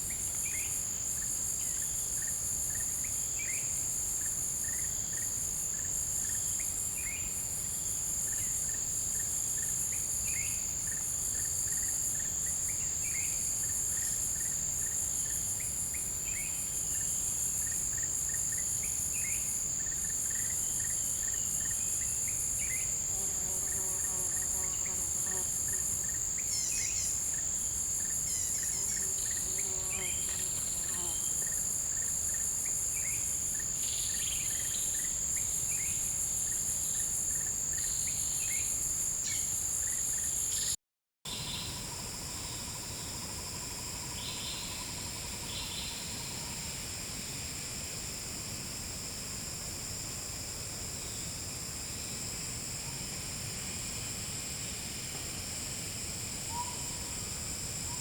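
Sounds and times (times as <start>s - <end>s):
shrill pulsing insect layer: 0.4s - 40.7s, 41.3s - 58.0s.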